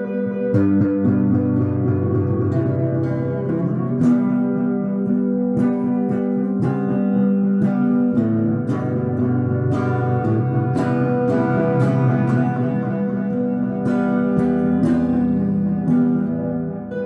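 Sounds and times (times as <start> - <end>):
guitar chords plucked and strummed: 0.0 - 17.0.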